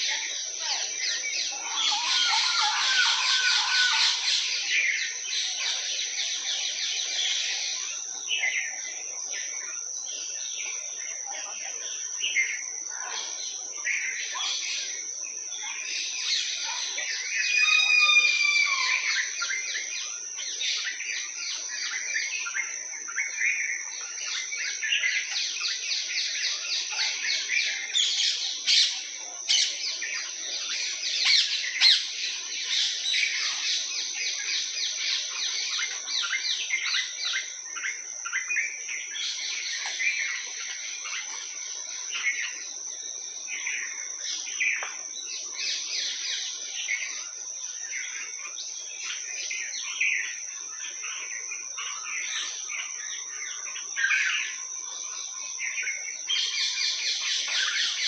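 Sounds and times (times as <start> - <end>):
tropical songbirds chirping: 0.0 - 58.0.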